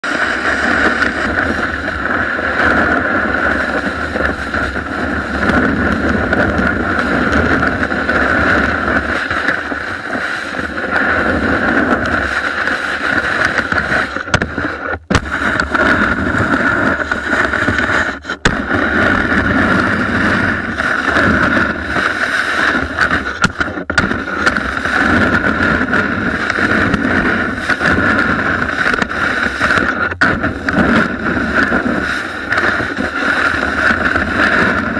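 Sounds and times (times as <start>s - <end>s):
snowboard scraping over snow: 0.0s - 34.9s
wind on microphone: 0.0s - 34.9s.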